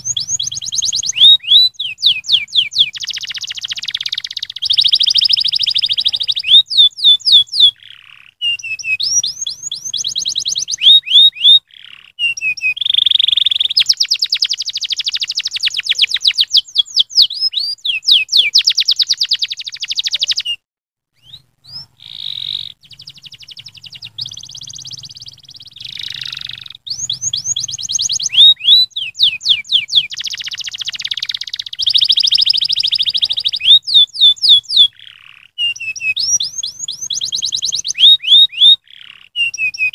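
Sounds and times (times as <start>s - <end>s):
canary singing trills: 0.0s - 20.6s, 21.2s - 39.9s.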